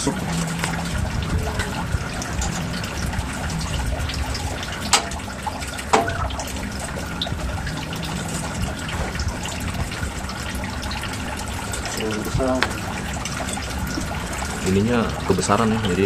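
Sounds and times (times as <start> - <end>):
water splashing into pond: 0.0 - 16.0.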